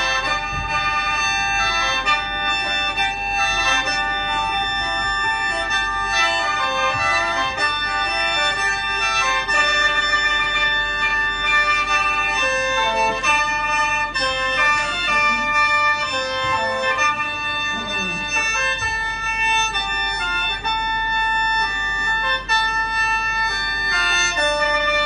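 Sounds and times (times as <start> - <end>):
free-reed mouth organ melody: 2.1 - 23.2.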